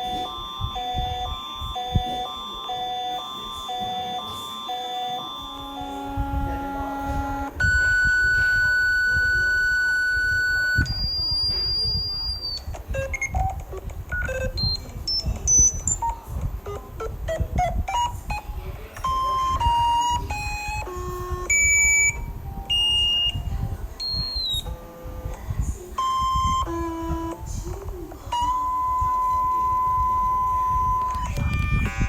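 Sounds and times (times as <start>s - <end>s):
electronic attention beeps: 0.0s - 25.4s, 26.0s - 32.0s.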